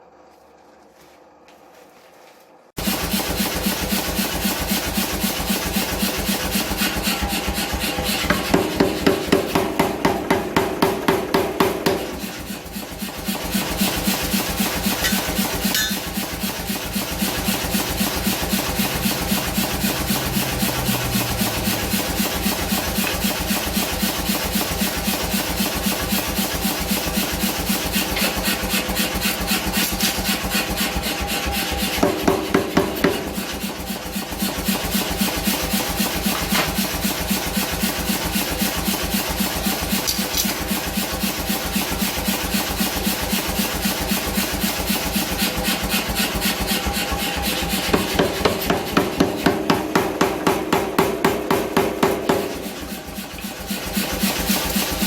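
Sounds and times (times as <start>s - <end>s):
grinder grinding steel: 2.8s - 10.7s, 11.6s - 55.0s.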